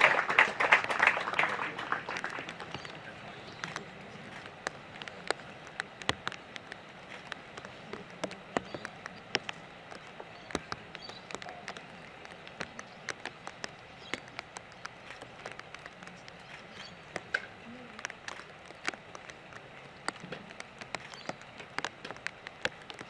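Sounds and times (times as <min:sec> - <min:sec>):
raindrops ticking and tapping: 0:00.0 - 0:23.0
steady outdoor hiss: 0:00.0 - 0:23.0.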